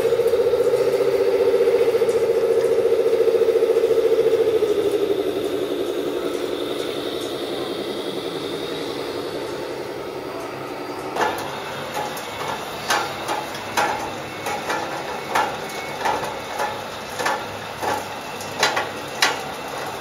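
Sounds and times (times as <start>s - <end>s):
pulsing model motor hum: 0.0s - 20.0s.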